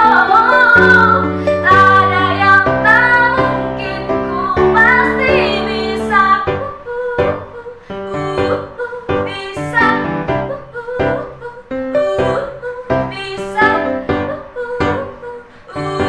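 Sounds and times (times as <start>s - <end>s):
girl singing: 0.0s - 16.0s
grand piano chords: 0.0s - 16.0s.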